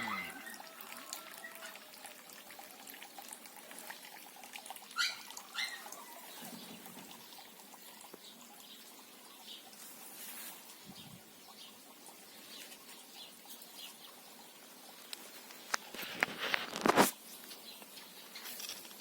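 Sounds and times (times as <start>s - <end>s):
faint trickling water: 0.0s - 19.0s.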